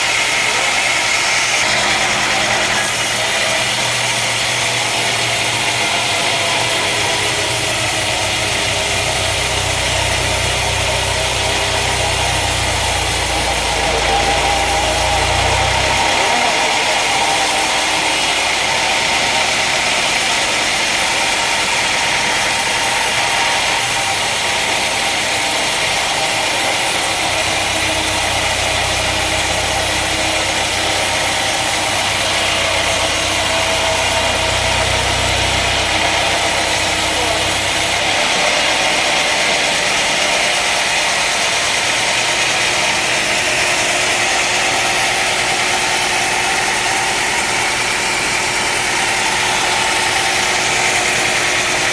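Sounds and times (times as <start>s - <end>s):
woodworking machinery running: 0.0s - 51.9s.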